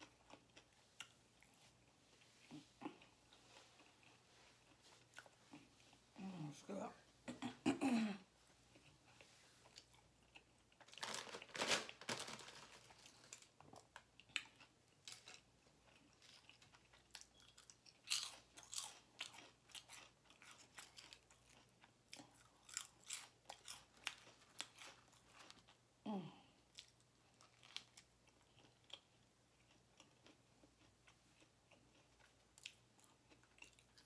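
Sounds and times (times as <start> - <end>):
chewing crusty bread: 0.0 - 6.1, 8.6 - 34.0.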